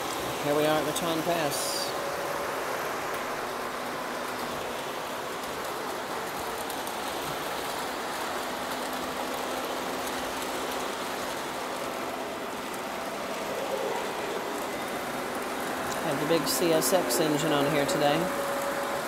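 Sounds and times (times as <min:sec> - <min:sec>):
faint steady hum: 0:00.0 - 0:19.0
model train wheels rattling on track: 0:00.0 - 0:19.0.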